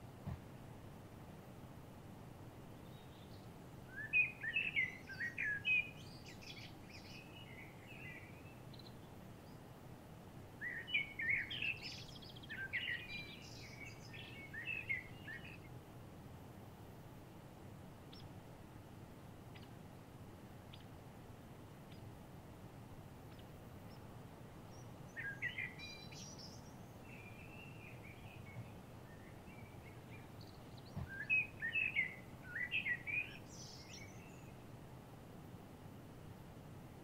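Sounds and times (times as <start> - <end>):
songbird singing: 0.0 - 35.0
faint outdoor hiss: 0.0 - 37.0.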